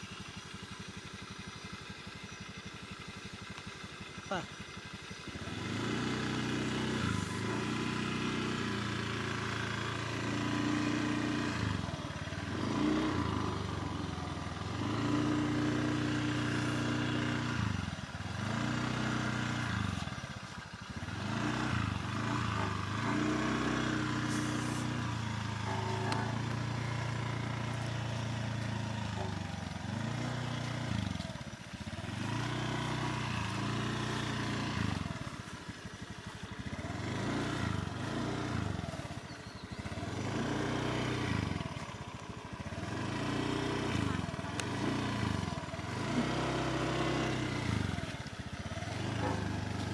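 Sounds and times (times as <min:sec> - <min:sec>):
motor scooter engine running: 0:00.0 - 0:49.9.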